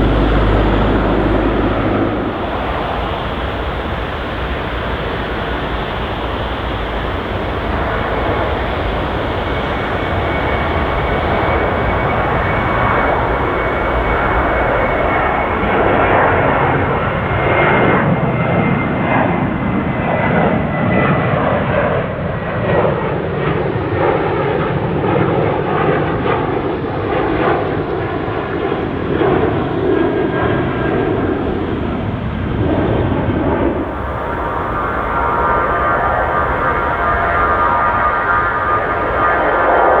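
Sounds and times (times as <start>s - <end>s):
high engine whine: 0.0s - 24.0s, 31.4s - 40.0s
jet airliner engines running: 0.0s - 40.0s.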